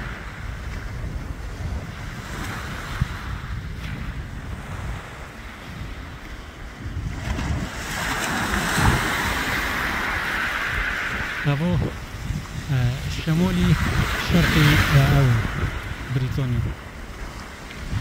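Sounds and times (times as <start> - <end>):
waves breaking on shingle beach: 0.0 - 18.0
wind buffeting microphone: 0.0 - 18.0.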